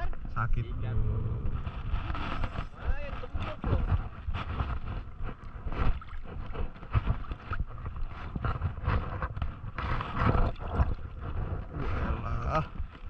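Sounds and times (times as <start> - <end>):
wind buffeting the microphone: 0.0 - 13.0
seawater sloshing and lapping: 1.5 - 13.0.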